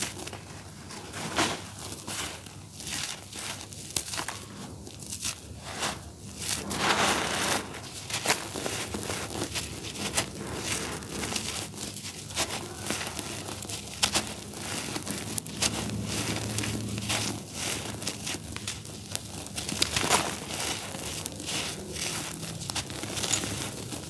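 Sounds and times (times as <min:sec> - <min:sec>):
charcoal crumbling in fingers: 0:00.0 - 0:24.0
grit sifting down: 0:00.0 - 0:24.0.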